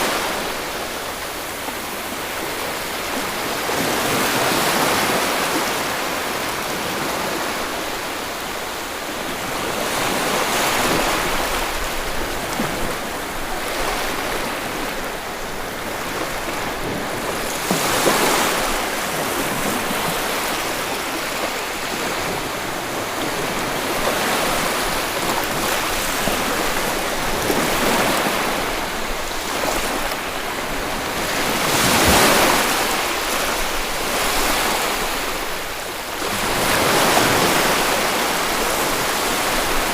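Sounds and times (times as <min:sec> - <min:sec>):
sea surf on a beach: 0:00.0 - 0:39.9.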